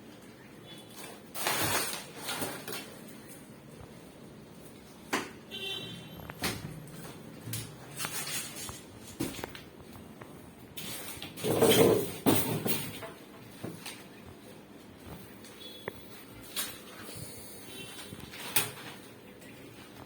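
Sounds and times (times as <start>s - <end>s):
scraping and rustling: 0.9s - 3.5s, 6.2s - 20.0s.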